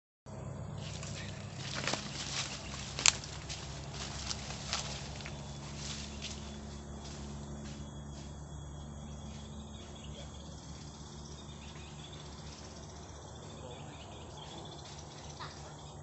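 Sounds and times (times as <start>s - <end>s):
insects chirping: 0.3s - 16.0s
low hum: 0.3s - 16.0s.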